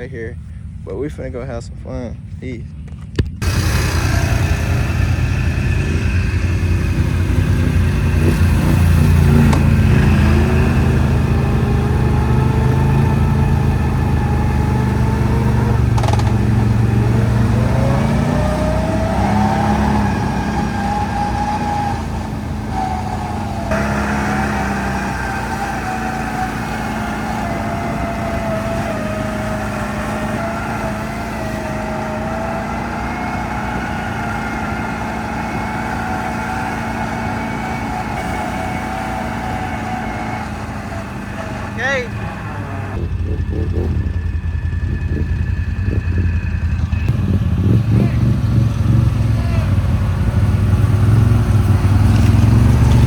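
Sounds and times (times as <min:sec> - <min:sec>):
atv engine revving: 0:03.4 - 0:53.0.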